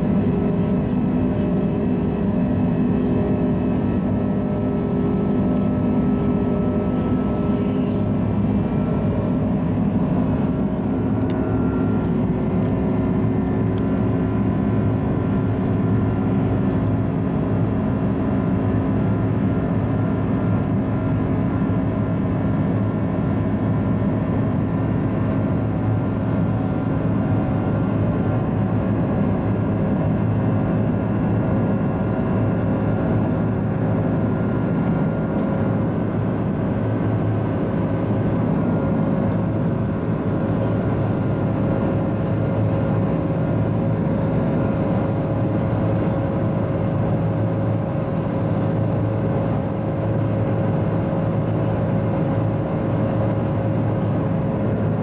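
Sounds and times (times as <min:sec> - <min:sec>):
airliner cabin drone: 0:00.0 - 0:55.0
steady engine tones: 0:00.0 - 0:55.0.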